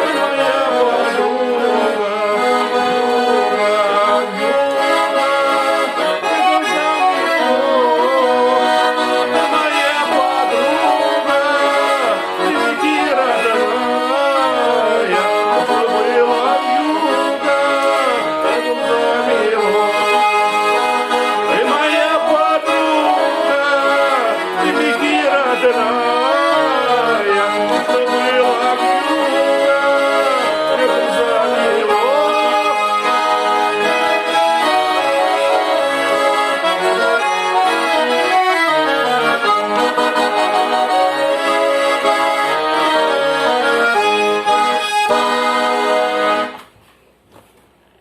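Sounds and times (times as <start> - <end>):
accordion folk melody: 0.0 - 47.1.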